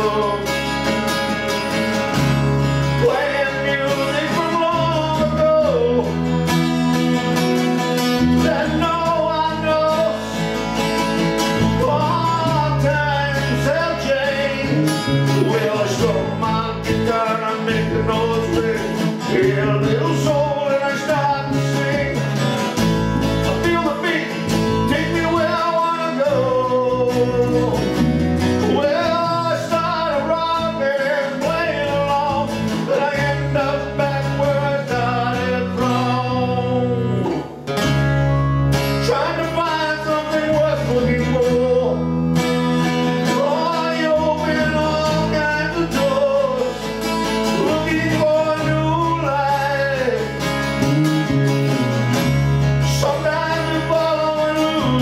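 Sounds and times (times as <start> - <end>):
person singing: 0.0 - 37.6, 38.8 - 51.9, 52.8 - 55.0
strummed acoustic guitar: 0.0 - 55.0.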